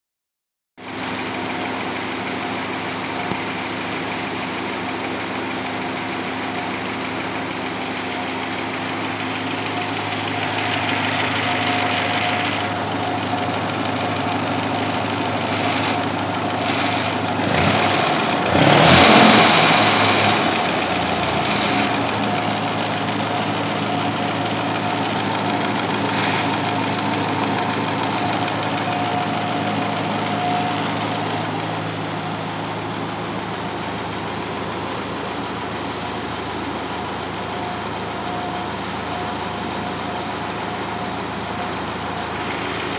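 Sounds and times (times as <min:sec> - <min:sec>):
tractor engine running: 0:00.8 - 0:42.9.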